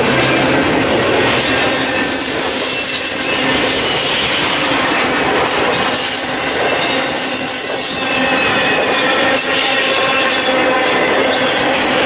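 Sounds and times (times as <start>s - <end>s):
high wheel squealing: 0.0s - 12.0s
steel wheels rattling on rail: 0.0s - 12.0s.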